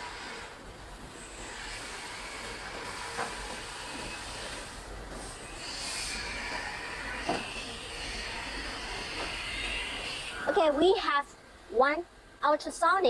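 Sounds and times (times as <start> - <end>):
production line hiss: 0.0 - 10.9.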